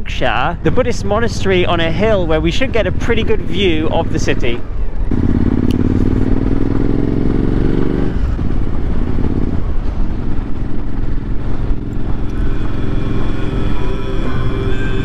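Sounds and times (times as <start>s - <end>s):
wind and road noise: 0.0s - 15.0s
motorcycle engine accelerating: 0.6s - 15.0s.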